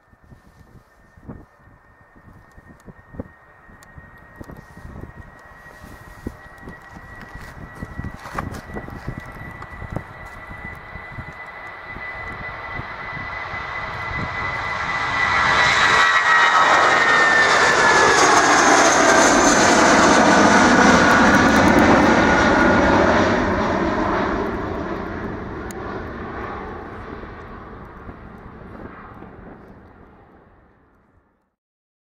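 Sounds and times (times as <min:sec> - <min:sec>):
jet airliner engine whine: 0:00.0 - 0:31.6.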